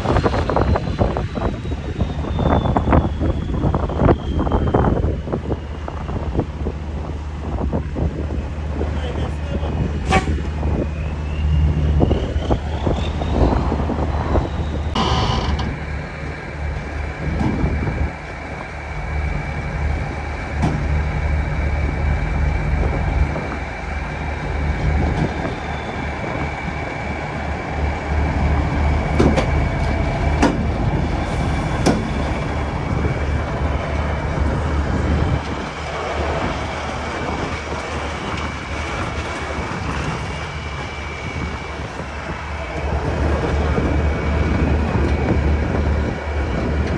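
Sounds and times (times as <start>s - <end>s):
diesel engine rumbling: 0.0s - 46.9s.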